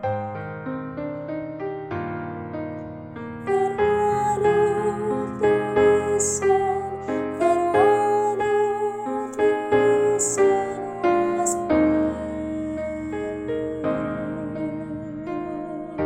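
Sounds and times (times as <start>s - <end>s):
slow piano playing: 0.0s - 16.0s.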